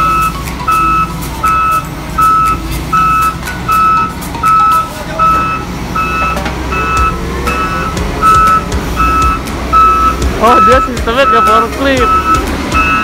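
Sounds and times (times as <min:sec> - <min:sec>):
back-up alarm beeping: 0:00.0 - 0:13.0
diesel engine running: 0:00.0 - 0:13.0.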